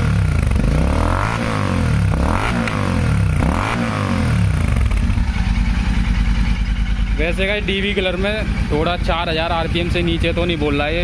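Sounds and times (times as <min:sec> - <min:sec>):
exhaust crack: 0:00.0 - 0:11.0
motorcycle engine revving: 0:00.0 - 0:11.0.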